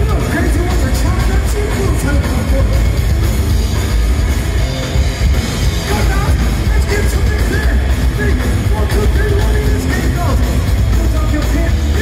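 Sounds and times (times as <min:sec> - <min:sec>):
bass guitar: 0:00.0 - 0:12.0
distorted electric guitars: 0:00.0 - 0:12.0
drum kit: 0:00.0 - 0:12.0.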